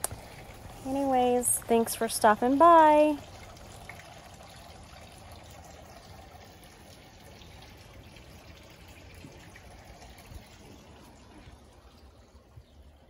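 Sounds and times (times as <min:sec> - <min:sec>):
fountain water trickling: 0:00.0 - 0:13.0.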